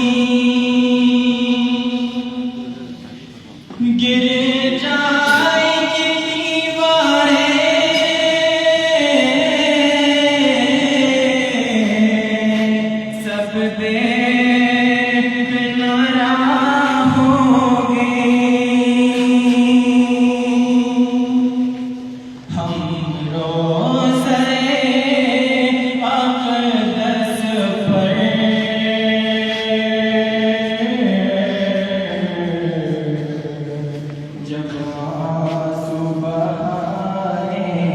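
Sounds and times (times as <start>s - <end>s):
choir-like vocal backing: 0.0s - 37.9s
person singing melismatic chant: 0.0s - 37.9s.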